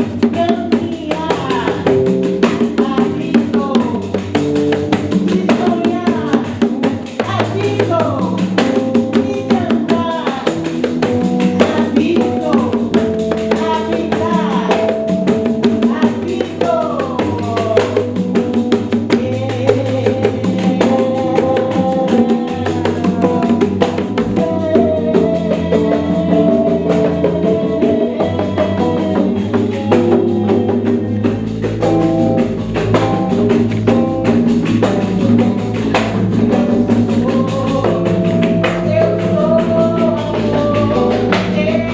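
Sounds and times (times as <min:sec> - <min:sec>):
frame drums playing rhythm: 0:00.0 - 0:41.9.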